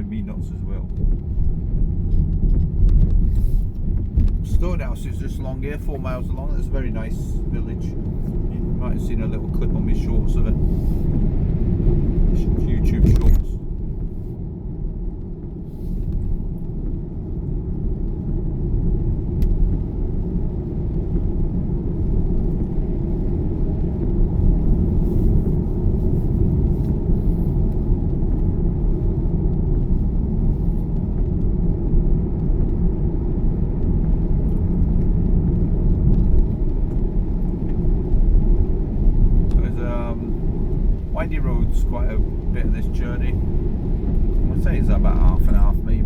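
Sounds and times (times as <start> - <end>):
car engine and tyres rumbling: 0.0 - 46.0.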